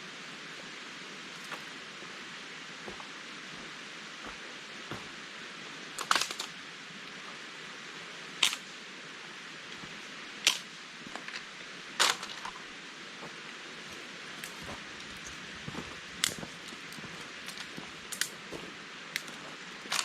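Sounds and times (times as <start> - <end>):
stream running: 0.0 - 6.0, 6.6 - 20.0.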